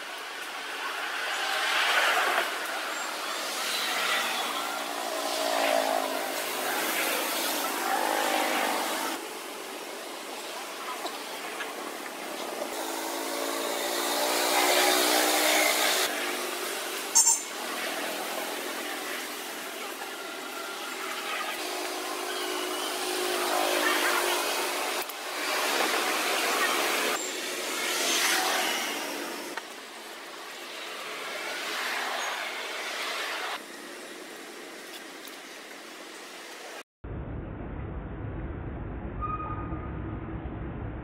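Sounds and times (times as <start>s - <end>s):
vehicle engines passing: 0.0s - 36.5s.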